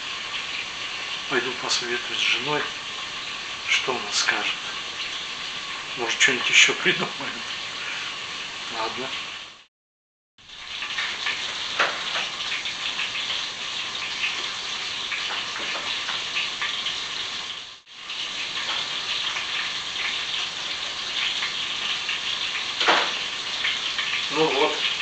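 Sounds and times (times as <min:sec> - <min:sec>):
meat sizzling in a pan: 0:00.0 - 0:09.7, 0:10.4 - 0:25.0.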